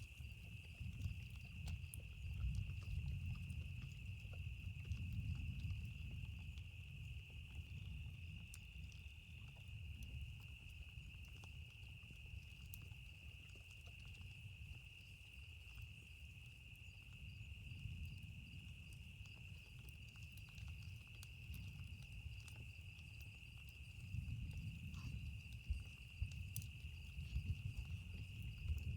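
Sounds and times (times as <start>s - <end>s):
campfire crackling: 0.0s - 28.9s
crickets chirping: 0.0s - 28.9s.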